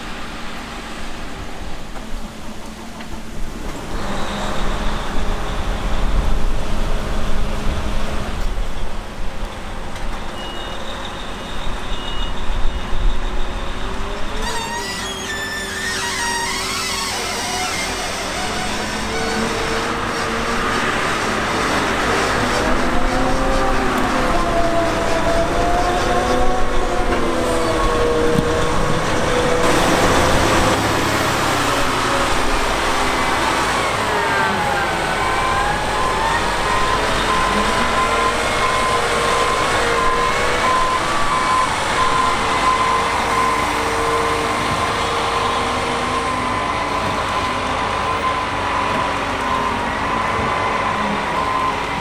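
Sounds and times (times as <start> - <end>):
diesel engine running under load: 0.0 - 14.4, 15.6 - 52.0.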